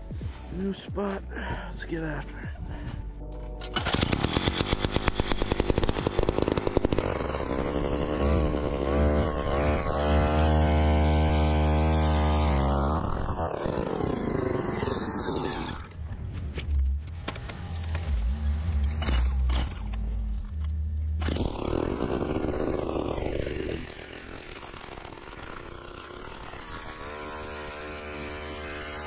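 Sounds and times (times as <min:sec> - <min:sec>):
ice auger engine drilling: 0:03.6 - 0:15.9, 0:17.3 - 0:29.0.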